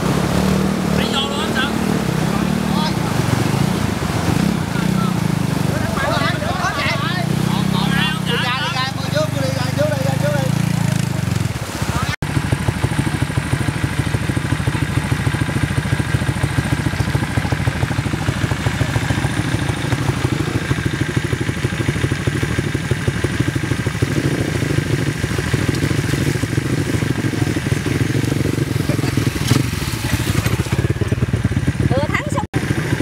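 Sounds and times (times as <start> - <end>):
small motorcycle engine running: 0.0 - 33.0.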